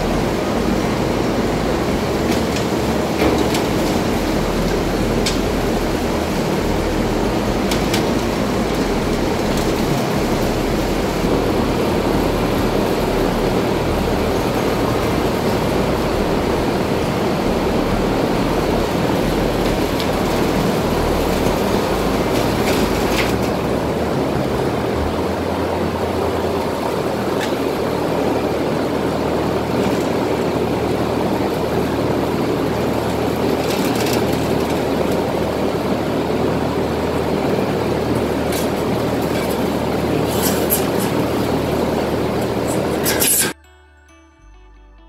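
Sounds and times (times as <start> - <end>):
loud machine drone: 0.0 - 44.5
low hum: 0.0 - 45.0.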